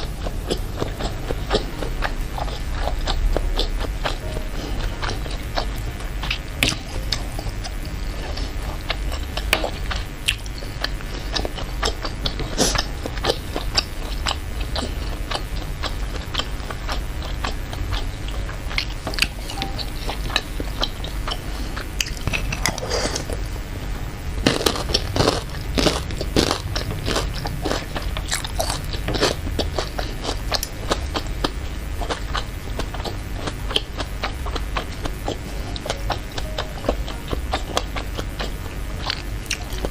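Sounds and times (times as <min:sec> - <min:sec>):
close-miked chewing: 0:00.0 - 0:39.9
steady low hum: 0:00.0 - 0:39.9.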